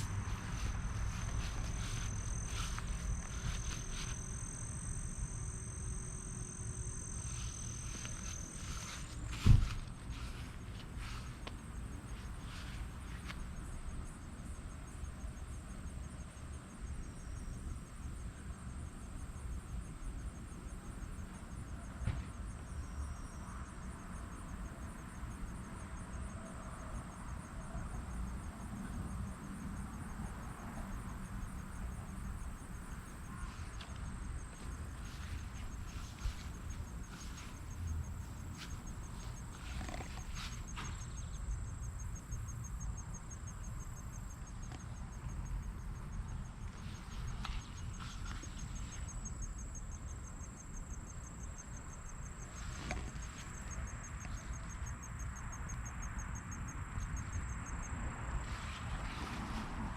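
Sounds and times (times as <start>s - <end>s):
insects trilling: 0.0s - 18.2s, 19.1s - 59.9s.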